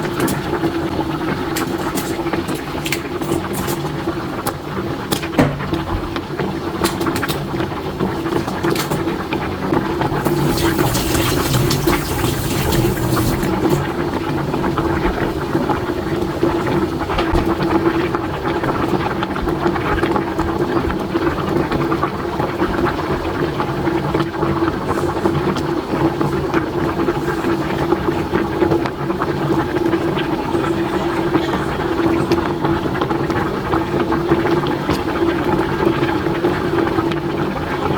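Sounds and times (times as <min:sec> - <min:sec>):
soup boiling and bubbling: 0:00.0 - 0:37.9.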